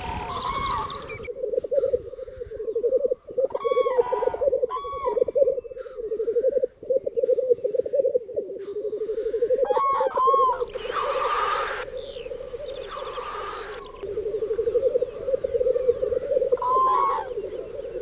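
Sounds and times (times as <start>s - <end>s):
grouse bubbling cooing: 0.0s - 18.0s.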